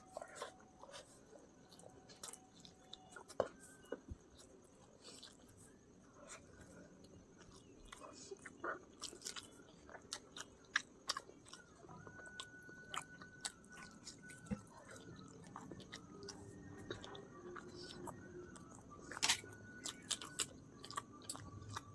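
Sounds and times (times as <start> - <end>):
person chewing with mouth smacks: 0.2 - 5.6, 6.3 - 21.9.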